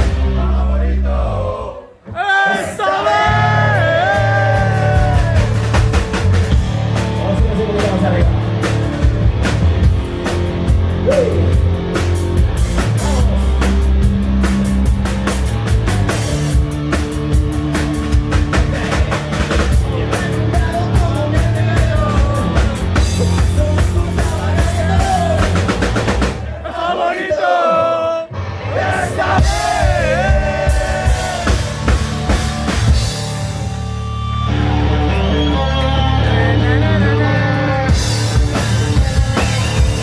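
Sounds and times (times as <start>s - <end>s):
hard rock band playing live: 0.0s - 0.7s, 3.2s - 26.7s, 28.3s - 40.0s
drum kit pounding: 0.0s - 0.8s, 3.2s - 27.0s, 29.1s - 35.4s, 37.4s - 40.0s.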